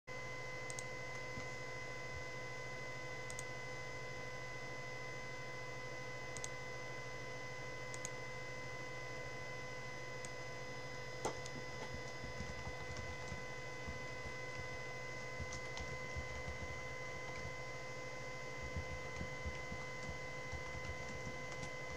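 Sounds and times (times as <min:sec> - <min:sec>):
electrical hum and whine: 0:00.1 - 0:21.9.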